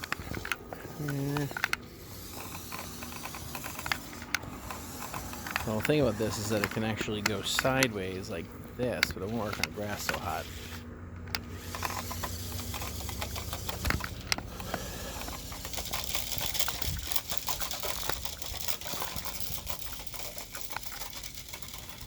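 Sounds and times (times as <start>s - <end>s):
small clicks and rattles: 0.0s - 10.4s, 11.1s - 22.0s
low hum: 0.0s - 22.0s
toy car motors whirring: 0.0s - 22.0s.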